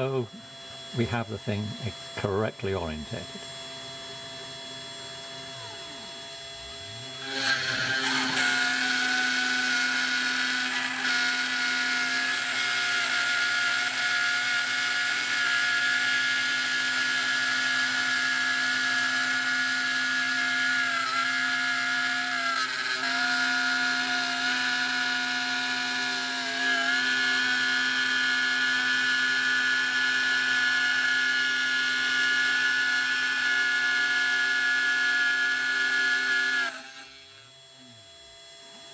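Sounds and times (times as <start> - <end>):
milling machine cutting board: 0.0 - 38.9.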